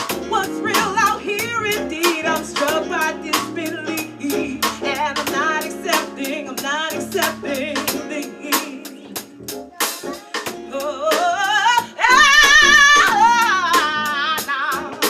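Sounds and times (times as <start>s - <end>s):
guitar: 0.0s - 15.0s
person singing: 0.0s - 15.0s.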